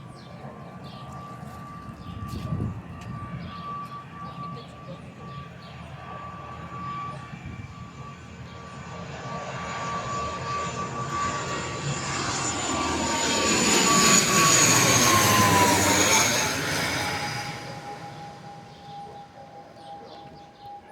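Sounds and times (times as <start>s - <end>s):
turboprop airliner passing by: 0.0s - 20.9s.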